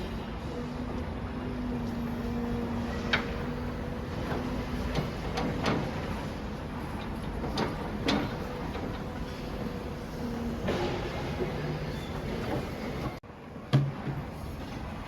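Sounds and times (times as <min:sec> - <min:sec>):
demolition machinery engine hum: 0:00.0 - 0:15.0.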